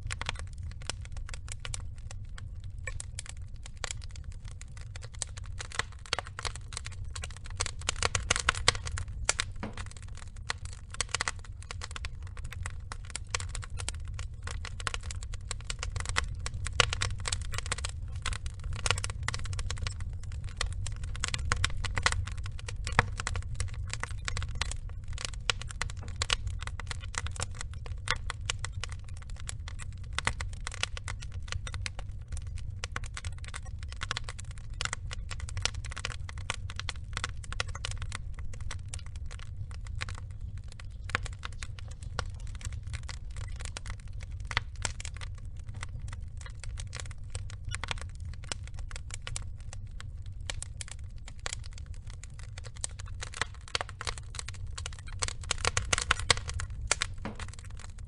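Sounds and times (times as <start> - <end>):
crackling of burning logs: 0.0 - 58.0
low rumble of flames: 0.0 - 58.0.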